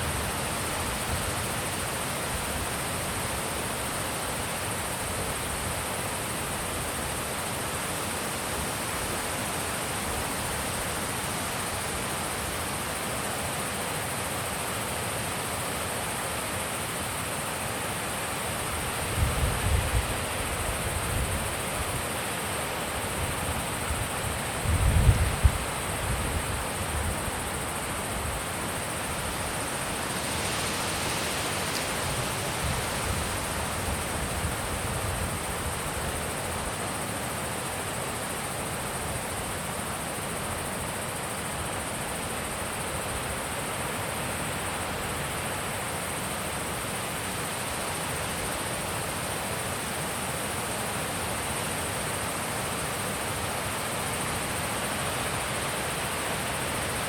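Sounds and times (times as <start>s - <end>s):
faint high hiss: 0.0s - 57.0s.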